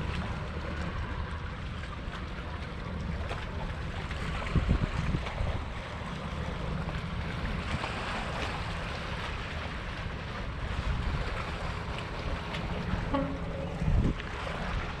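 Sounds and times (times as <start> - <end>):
open water ambience: 0.0 - 15.0
wind buffeting microphone: 0.0 - 15.0.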